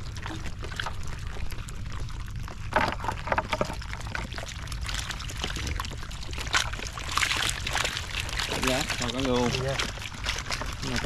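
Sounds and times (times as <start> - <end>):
water splashing and pouring: 0.0 - 11.0.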